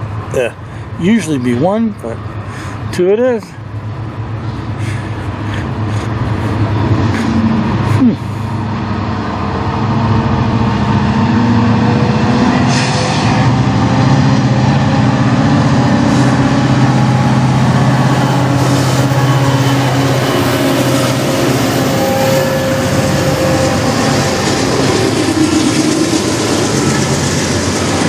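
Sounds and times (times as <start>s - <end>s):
locomotive engine drone: 0.0s - 28.0s.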